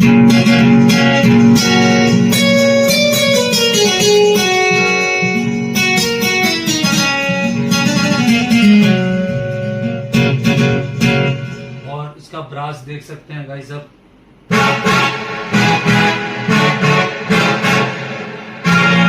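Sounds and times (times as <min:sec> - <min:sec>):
electronic keyboard guitar notes: 0:00.0 - 0:12.0, 0:14.5 - 0:19.0.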